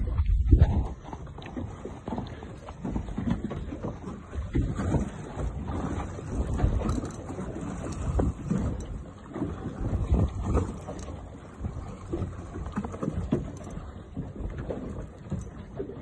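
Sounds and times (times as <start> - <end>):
water sloshing against hull: 0.0 - 16.0
wind buffeting microphone: 0.0 - 16.0.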